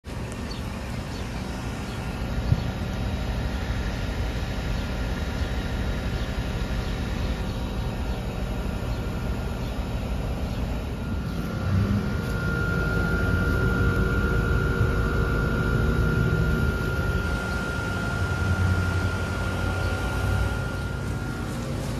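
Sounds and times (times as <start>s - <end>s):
heat pump hum and fan: 0.0s - 21.9s
high-pitched whine: 0.1s - 21.9s.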